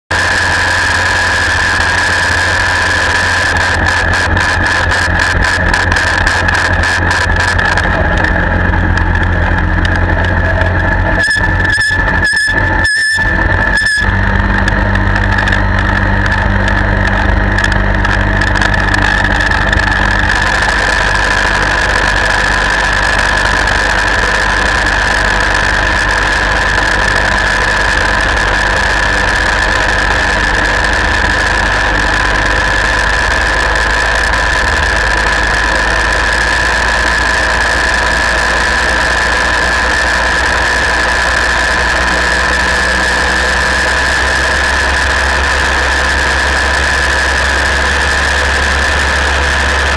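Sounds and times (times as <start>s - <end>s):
gyroplane engine and propeller: 0.1s - 49.9s.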